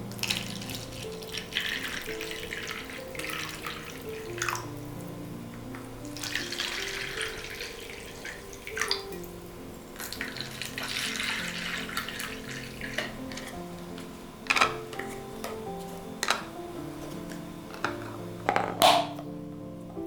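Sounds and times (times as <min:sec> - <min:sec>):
soft background music: 0:00.0 - 0:20.0
tap water running into sink: 0:00.1 - 0:04.8, 0:05.7 - 0:09.4, 0:10.0 - 0:19.3.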